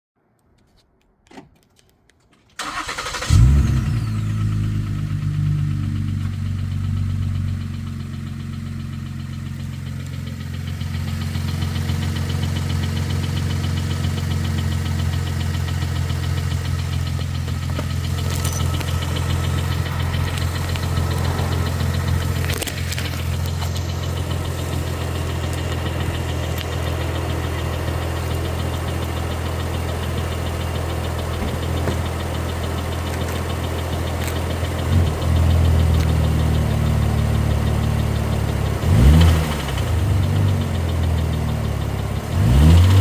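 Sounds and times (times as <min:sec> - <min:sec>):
engine cranking: 0:02.6 - 0:43.0
engine idling with knocking: 0:04.4 - 0:43.0.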